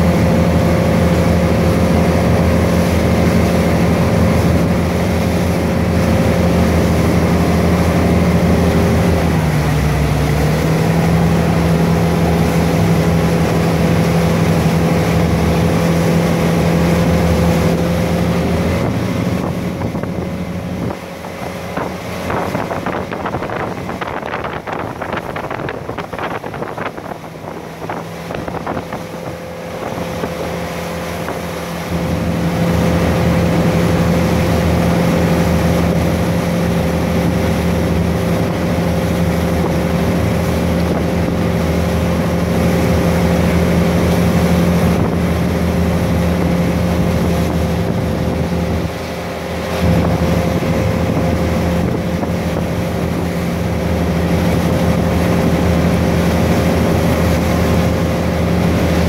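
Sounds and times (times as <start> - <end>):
boat engine droning: 0.0 - 59.0
churning boat wake: 0.0 - 59.0
wind on microphone: 0.0 - 59.0.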